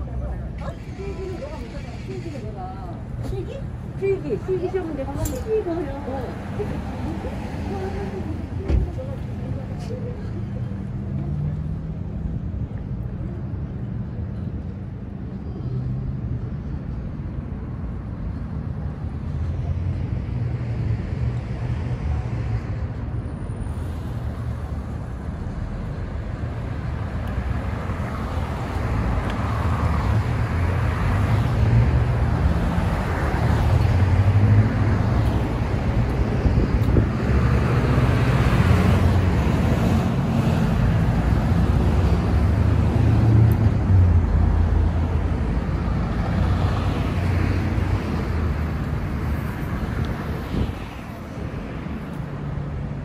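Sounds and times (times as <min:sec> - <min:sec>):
traffic rumble: 0:00.0 - 0:53.0.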